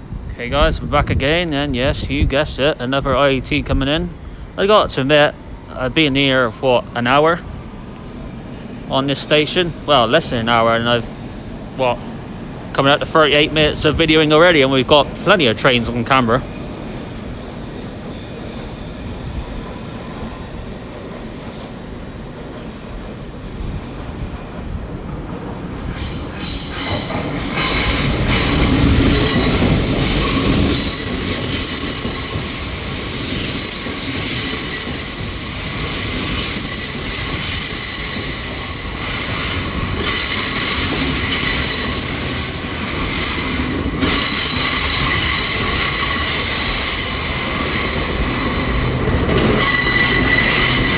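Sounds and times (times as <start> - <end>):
train wheels squealing: 9.3 - 50.9.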